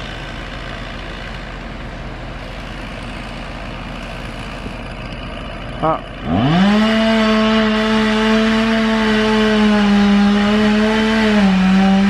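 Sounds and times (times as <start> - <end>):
heavy crane engine running: 0.0 - 12.0.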